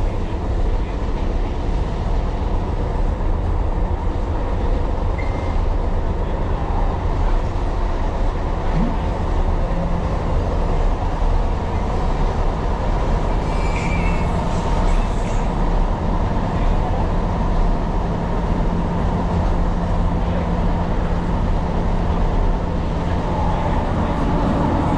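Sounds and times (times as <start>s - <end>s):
train wheels rumbling on track: 0.0s - 24.9s.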